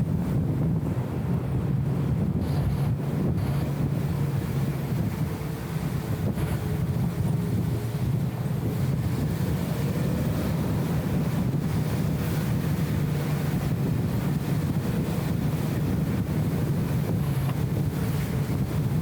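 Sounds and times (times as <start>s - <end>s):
car engine and road drone: 0.0s - 19.0s.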